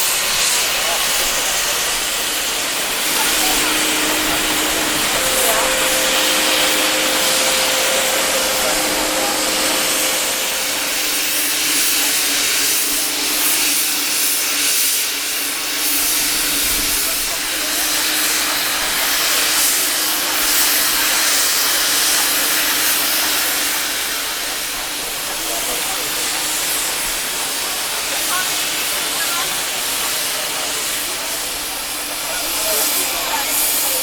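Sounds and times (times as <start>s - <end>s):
steam hissing: 0.0s - 34.0s.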